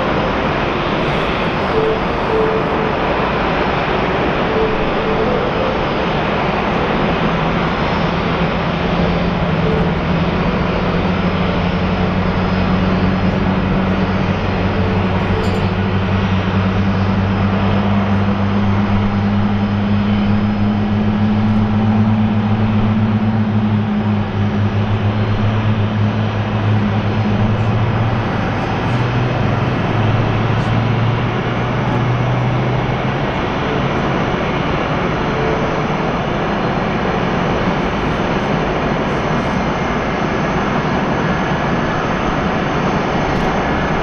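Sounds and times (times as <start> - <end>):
jet engines during takeoff: 0.0 - 44.0.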